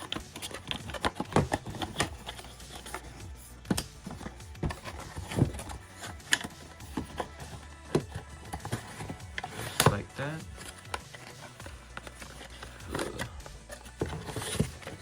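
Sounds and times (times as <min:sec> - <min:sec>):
packaging clicks taps and knocks: 0:00.0 - 0:15.0.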